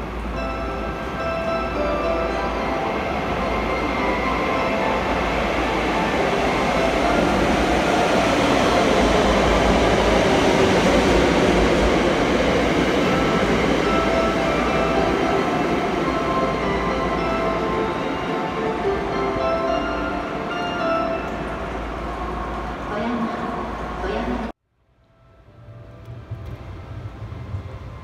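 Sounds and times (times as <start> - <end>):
train wheels rumbling on rail: 0.0 - 24.5, 25.7 - 28.0.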